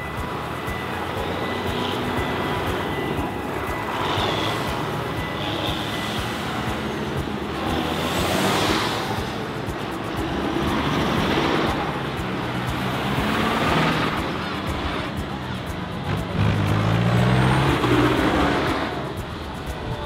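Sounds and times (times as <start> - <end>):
tractor diesel engines passing: 0.0 - 20.0.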